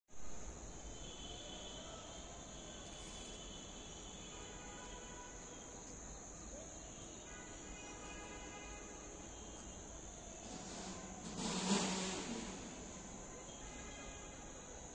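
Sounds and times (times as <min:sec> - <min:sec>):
high-pitched insect chorus: 0:00.2 - 0:14.9.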